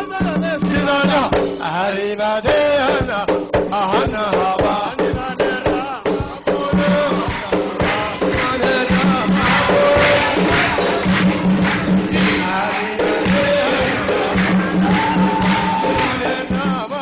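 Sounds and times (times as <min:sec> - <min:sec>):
men singing and chanting: 0:00.0 - 0:17.0
steady drum beats: 0:00.0 - 0:17.0.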